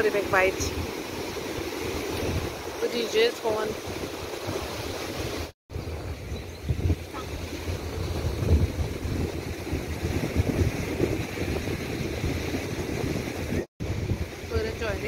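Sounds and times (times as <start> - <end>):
surf washing: 0.0 - 6.0, 6.9 - 15.0
wind buffeting microphone: 0.0 - 15.0.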